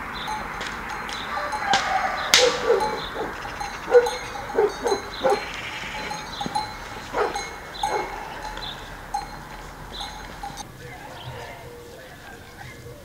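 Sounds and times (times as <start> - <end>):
hooves knocking on asphalt: 0.0 - 13.0
steady background hiss: 0.0 - 13.0
goat bleats: 0.3 - 13.0.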